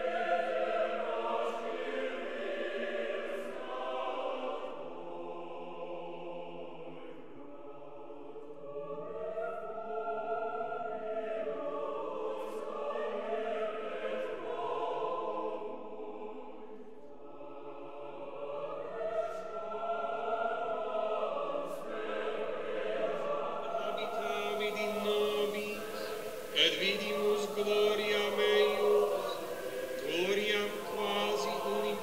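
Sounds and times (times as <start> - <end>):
choir singing chant: 0.0 - 32.0.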